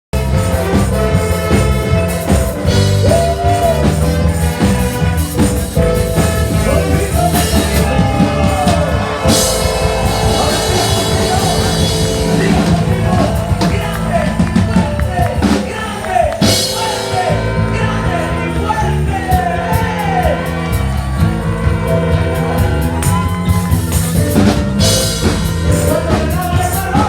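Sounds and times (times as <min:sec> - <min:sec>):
band playing rock music: 0:00.1 - 0:27.0
drum kit: 0:00.1 - 0:27.0.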